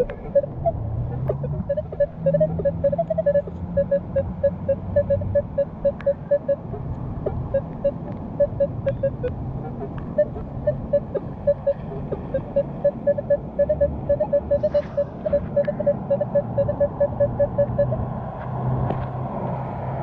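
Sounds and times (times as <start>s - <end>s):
metal detector beeping: 0.0s - 18.0s.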